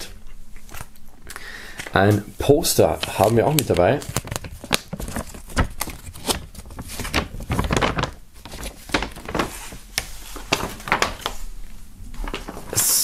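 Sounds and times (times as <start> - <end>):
paper rustling and crackling: 1.8 - 12.9.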